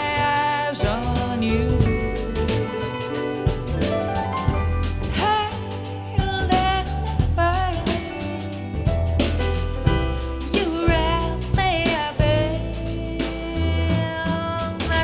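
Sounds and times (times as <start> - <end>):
soul-jazz song with singing: 0.0 - 15.0.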